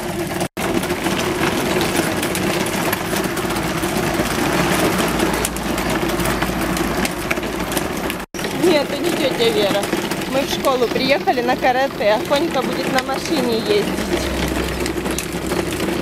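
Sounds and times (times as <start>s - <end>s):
toy go-kart wheels rolling on paving: 0.0s - 16.0s.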